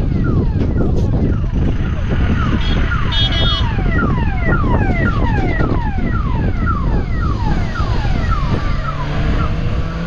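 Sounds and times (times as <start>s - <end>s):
heavy low rumble: 0.0s - 9.8s.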